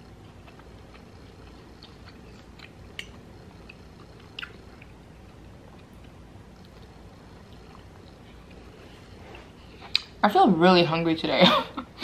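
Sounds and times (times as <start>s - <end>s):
close-up chewing: 0.1s - 10.1s.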